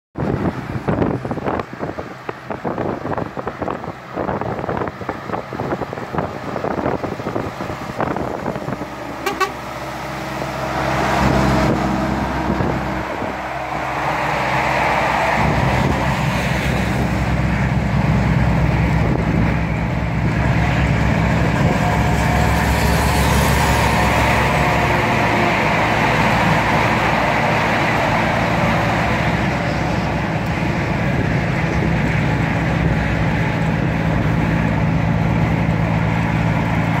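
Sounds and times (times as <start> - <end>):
diesel engine drone: 0.2 - 37.0
road noise: 0.2 - 37.0
wind buffeting: 0.2 - 37.0.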